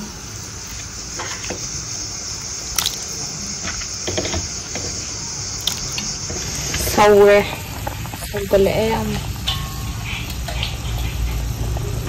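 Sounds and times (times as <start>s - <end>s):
water boiling in a pot: 0.0s - 12.0s.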